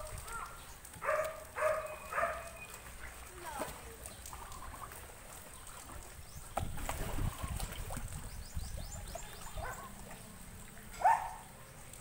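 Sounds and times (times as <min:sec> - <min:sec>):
river water lapping: 0:00.0 - 0:12.0.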